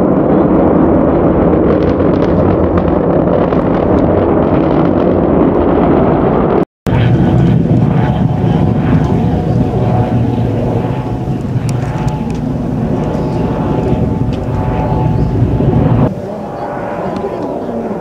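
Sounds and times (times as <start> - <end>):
rocket launch roar: 0.0 - 18.0.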